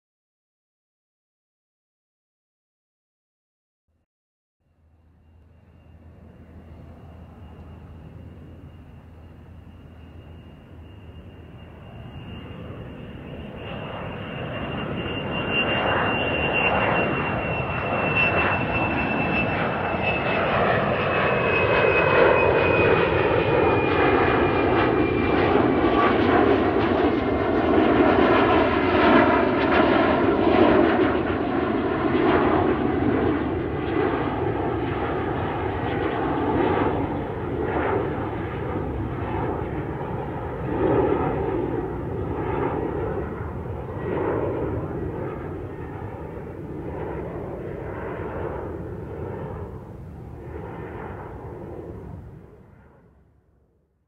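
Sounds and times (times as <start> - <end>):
jet taxiing with fan whine: 4.7 - 53.7.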